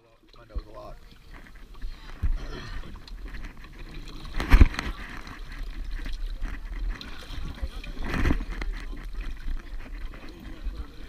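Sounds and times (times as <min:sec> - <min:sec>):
water washing against boat: 0:00.0 - 0:11.0
wind rumbling on microphone: 0:01.2 - 0:11.0.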